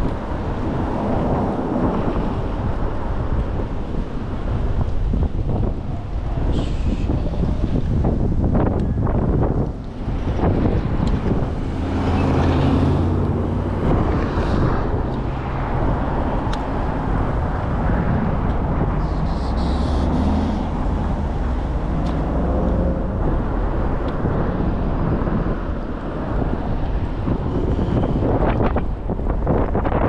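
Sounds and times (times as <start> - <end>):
low vehicle hum: 0.0 - 30.0
road noise: 0.0 - 30.0
wind rushing over microphone: 0.0 - 30.0.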